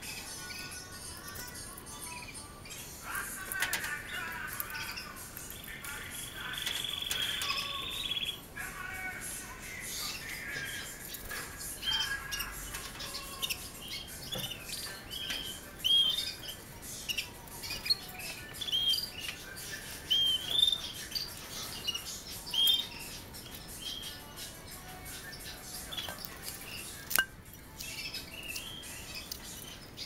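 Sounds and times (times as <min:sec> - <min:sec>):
canaries chirping: 0:00.0 - 0:30.0.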